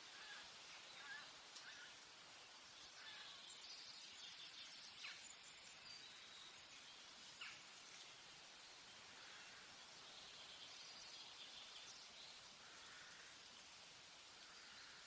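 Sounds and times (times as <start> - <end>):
soft steady hiss: 0.0 - 15.0.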